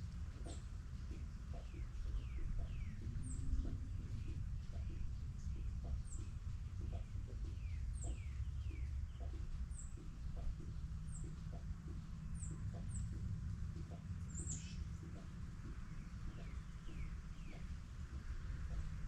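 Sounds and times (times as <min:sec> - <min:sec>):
steady low rumble: 0:00.0 - 0:19.0
songbirds chirping: 0:00.1 - 0:19.0.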